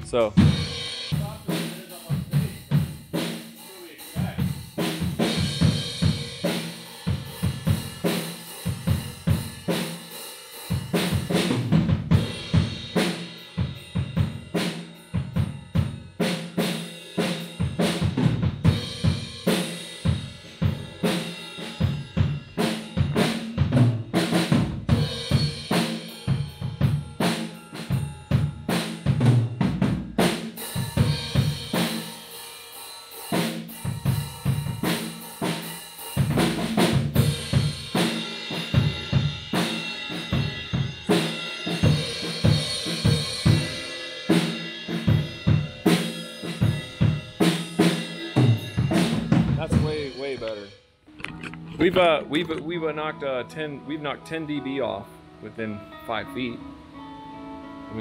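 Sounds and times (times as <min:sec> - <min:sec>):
drum kit beat: 0:00.0 - 0:55.0.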